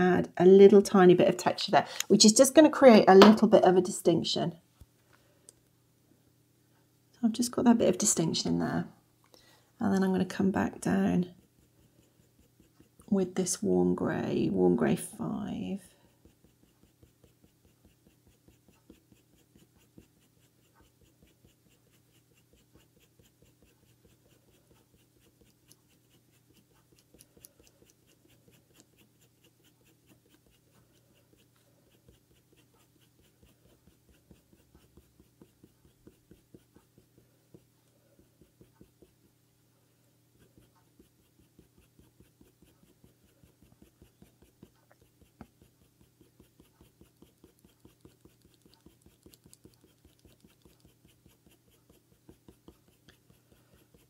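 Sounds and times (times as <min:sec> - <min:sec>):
colour pencil scratching on paper: 0:07.4 - 0:08.9, 0:09.8 - 0:39.5, 0:40.1 - 0:54.0.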